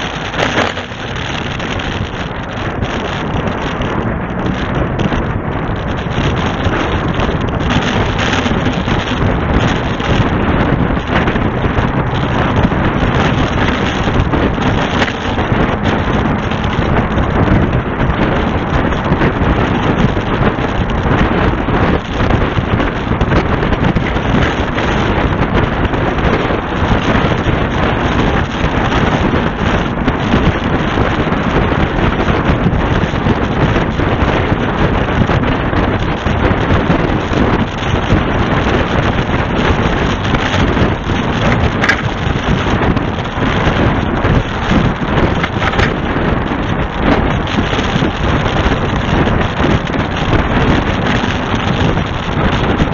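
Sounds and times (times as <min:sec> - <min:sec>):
truck running: 0:00.0 - 0:52.9
wind buffeting microphone: 0:00.0 - 0:52.9.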